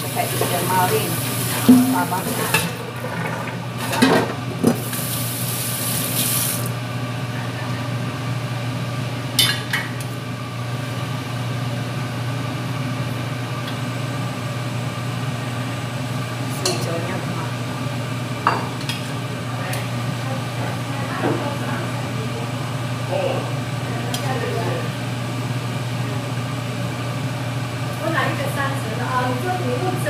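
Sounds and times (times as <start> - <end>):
low kitchen hum and hiss: 0.0 - 30.0.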